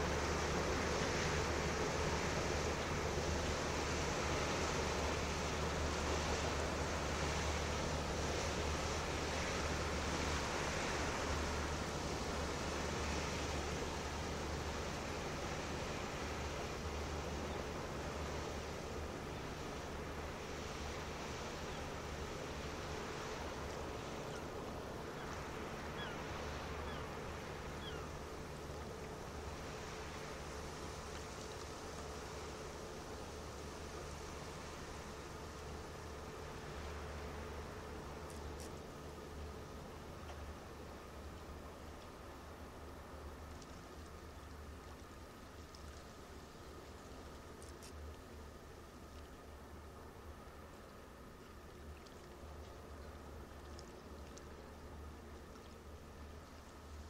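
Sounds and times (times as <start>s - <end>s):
low hum of ship machinery: 0.0s - 57.0s
ventilation hiss: 0.0s - 57.0s.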